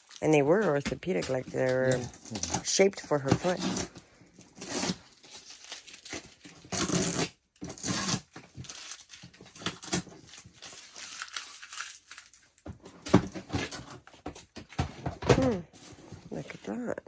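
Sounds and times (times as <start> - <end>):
wrapping crinkling and rustling: 0.0 - 17.0.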